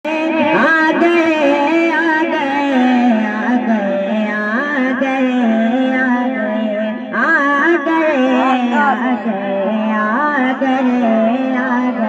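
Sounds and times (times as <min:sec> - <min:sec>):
person singing wordless melody: 0:00.1 - 0:12.0.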